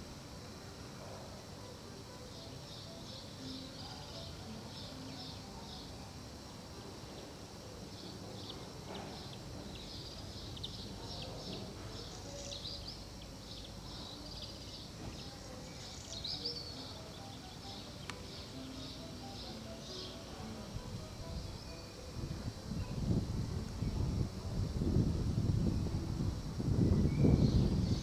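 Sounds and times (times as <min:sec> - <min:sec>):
low outdoor background noise: 0:00.0 - 0:28.0
small birds chirping: 0:02.2 - 0:24.3, 0:26.7 - 0:28.0.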